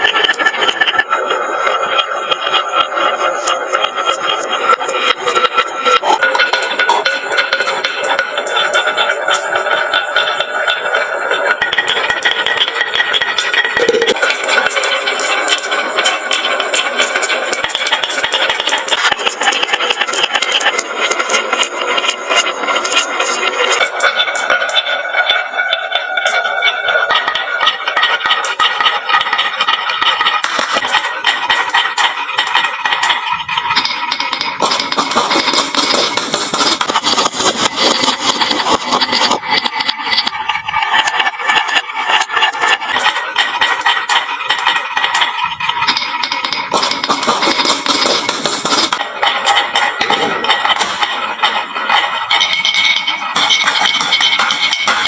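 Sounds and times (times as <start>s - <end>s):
marbles clattering on wooden track: 0.0s - 24.5s, 26.2s - 55.0s.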